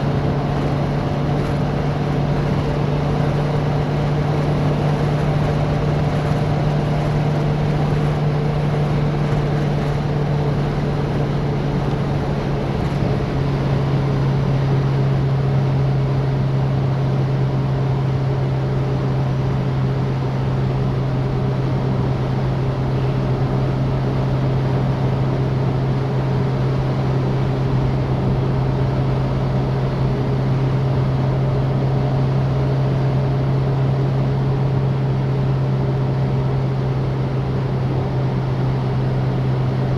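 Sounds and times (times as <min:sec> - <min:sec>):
car engine humming: 0:00.0 - 0:39.9
road and wind noise: 0:00.0 - 0:39.9.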